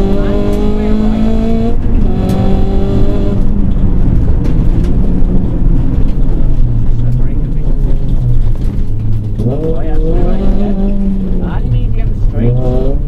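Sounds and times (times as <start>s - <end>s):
rally car engine revving: 0.0s - 13.0s
road noise: 0.0s - 13.0s.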